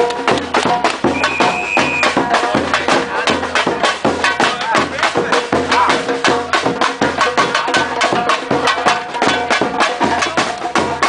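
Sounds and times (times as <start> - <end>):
samba drumming: 0.0 - 11.0.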